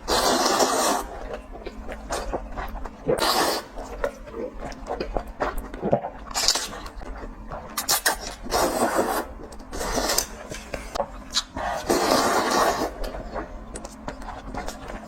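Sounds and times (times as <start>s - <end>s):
chewing and mouth noises: 0.0s - 15.0s.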